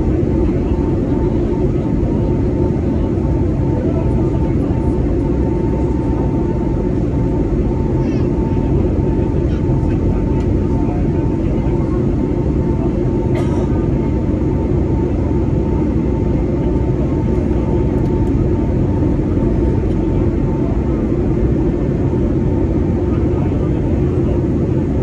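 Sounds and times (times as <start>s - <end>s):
airplane cabin roar: 0.0s - 25.0s.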